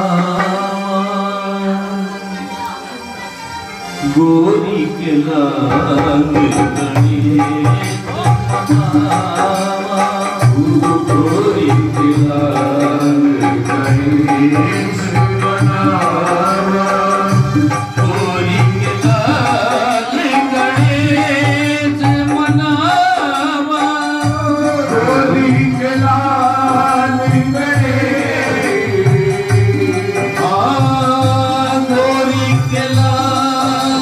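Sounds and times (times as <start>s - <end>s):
harmonium and keyboard melody: 0.0s - 34.0s
dholak drum beat: 3.4s - 34.0s.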